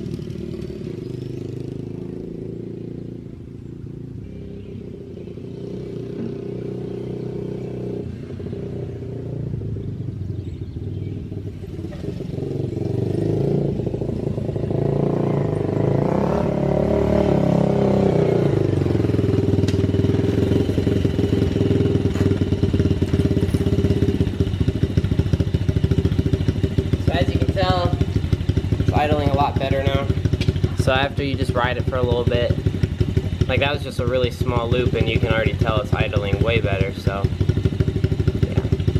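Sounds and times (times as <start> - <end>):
small motorbike engine idling: 0.0 - 14.9, 18.0 - 38.9.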